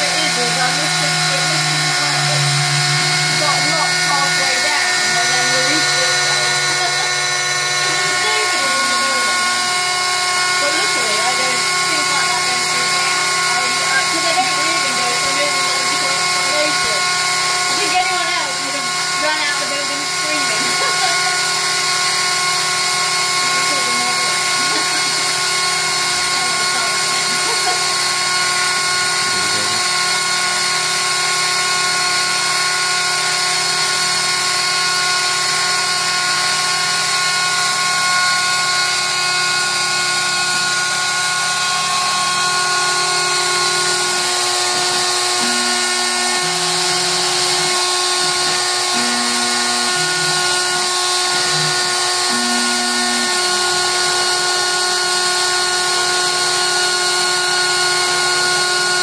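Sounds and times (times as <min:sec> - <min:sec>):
motor hums changing pitch: 0:00.0 - 0:59.0
rotary tool cutting plywood: 0:00.0 - 0:59.0.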